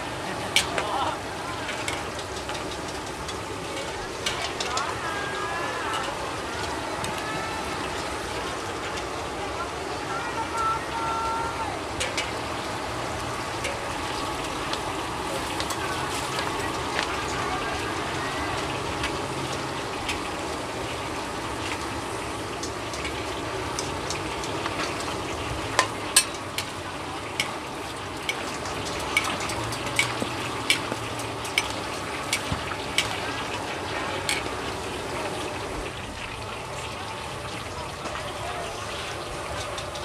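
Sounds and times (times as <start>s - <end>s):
metal utensils clanking on pan: 0.0s - 9.4s, 11.8s - 40.0s
food sizzling in a wok: 0.0s - 40.0s.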